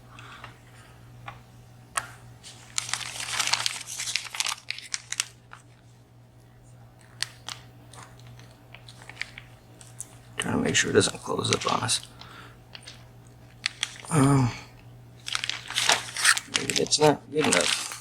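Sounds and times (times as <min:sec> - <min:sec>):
plastic bag crinkling: 0:02.0 - 0:06.0, 0:07.0 - 0:18.0.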